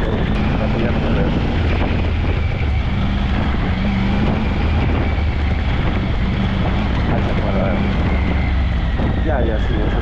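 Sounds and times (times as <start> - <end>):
low engine drone: 0.0 - 10.0
rushing noise: 0.0 - 10.0.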